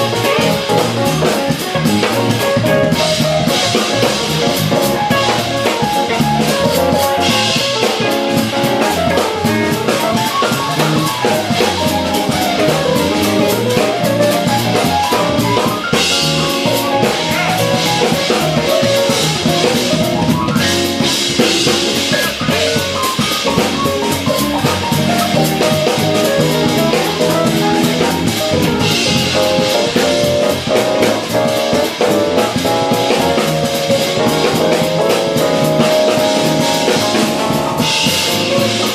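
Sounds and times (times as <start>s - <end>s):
jazz-fusion band playing: 0.0s - 38.9s.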